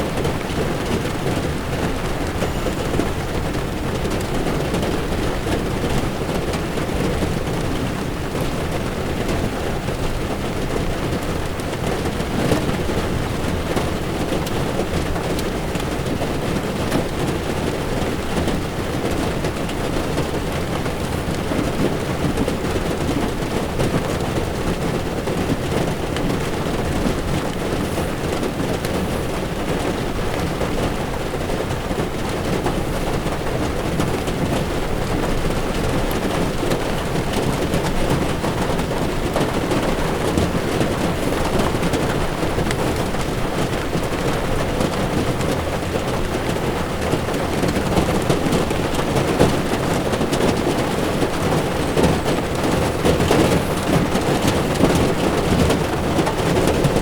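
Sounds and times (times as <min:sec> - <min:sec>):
rain on car windshield: 0:00.0 - 0:57.0
tyres rumbling on wet road: 0:00.0 - 0:57.0.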